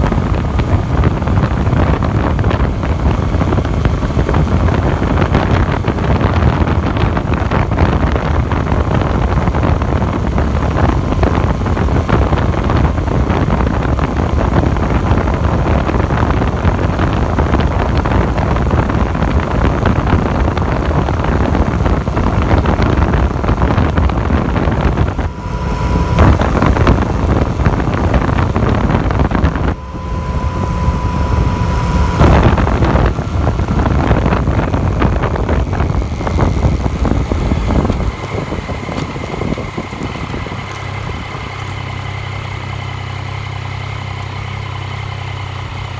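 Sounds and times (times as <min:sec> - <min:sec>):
motorcycle engine running: 0:00.0 - 0:45.9
steady whine: 0:00.0 - 0:45.9
wind rushing on microphone: 0:00.0 - 0:45.9.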